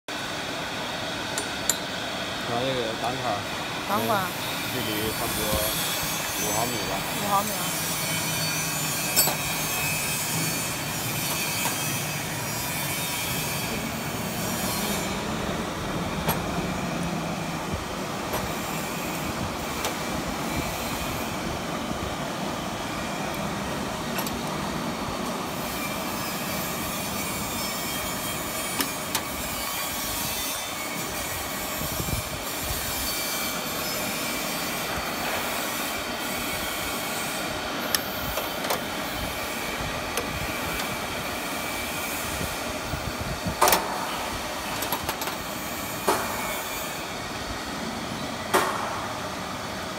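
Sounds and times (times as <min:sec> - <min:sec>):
machine running with high whine: 0:00.1 - 0:49.9.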